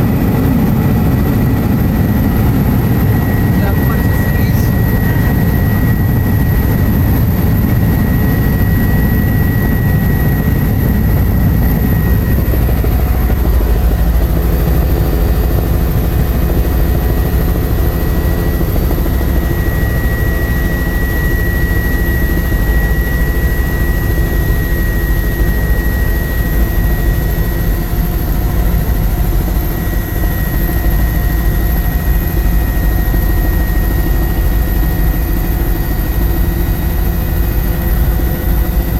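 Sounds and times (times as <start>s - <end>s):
constant high whine: 0.0s - 38.9s
helicopter engine and rotors drone: 0.0s - 38.9s.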